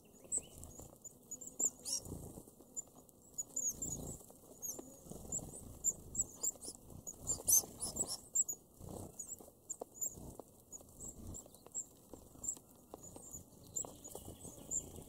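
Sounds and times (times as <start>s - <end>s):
high-pitched finch calls: 0.1s - 2.2s, 3.4s - 10.2s, 11.0s - 15.0s
soft rustling and fluttering: 0.2s - 15.0s.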